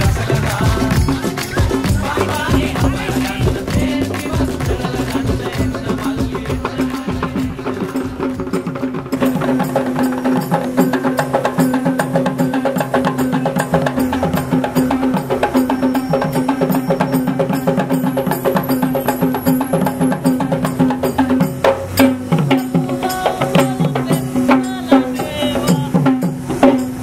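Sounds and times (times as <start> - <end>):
drums beaten in fast strokes: 0.0 - 27.0.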